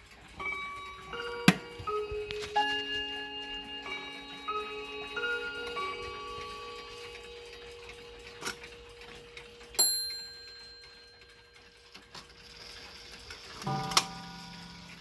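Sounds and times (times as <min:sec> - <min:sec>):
clock chime: 0:00.0 - 0:15.0
clock ticking and clicking: 0:00.0 - 0:15.0.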